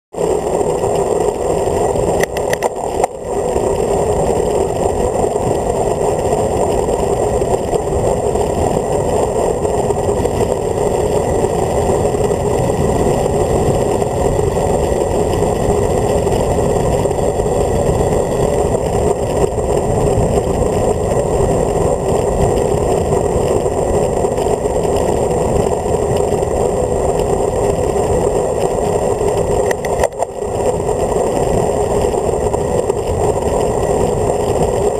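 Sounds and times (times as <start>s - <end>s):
wind rushing over microphone: 0.1s - 34.9s
low rumble: 0.2s - 34.9s.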